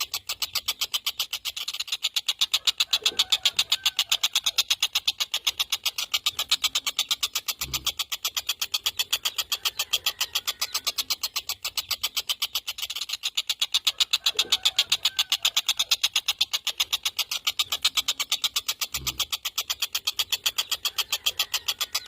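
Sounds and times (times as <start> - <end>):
kingfisher rattling call: 0.0 - 22.0.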